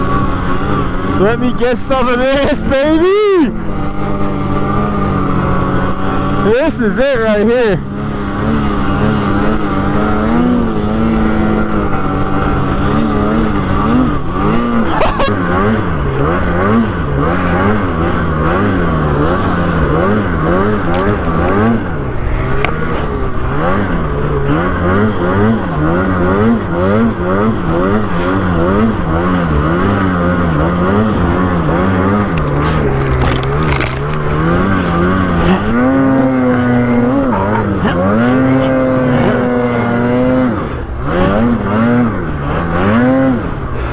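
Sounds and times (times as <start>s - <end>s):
snowmobile engine revving: 0.0s - 43.9s.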